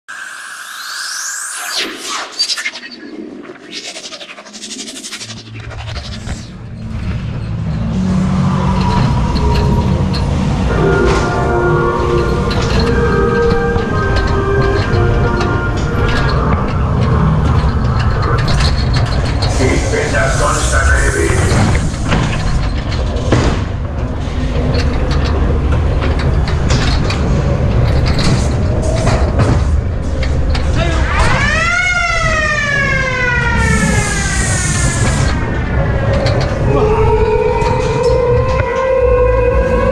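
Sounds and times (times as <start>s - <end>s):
ride car rumbling on track: 5.8s - 39.9s.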